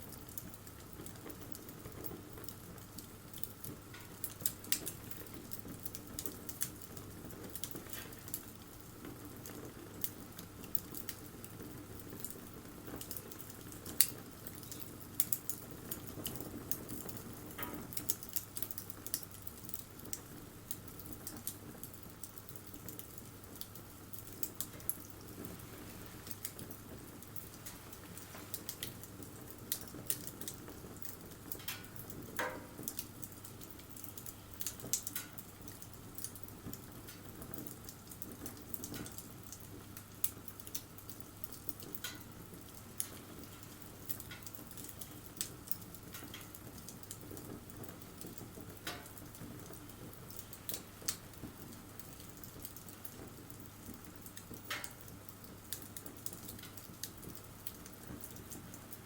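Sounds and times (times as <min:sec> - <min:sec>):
bonfire crackling: 0:00.0 - 0:59.0
soft fire hiss: 0:00.0 - 0:59.0.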